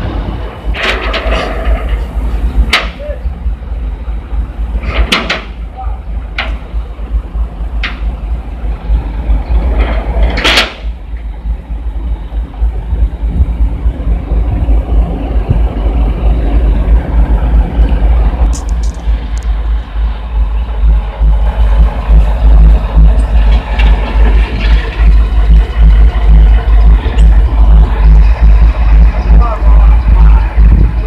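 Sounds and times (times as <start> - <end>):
diesel truck engine rumbling: 0.0 - 31.0.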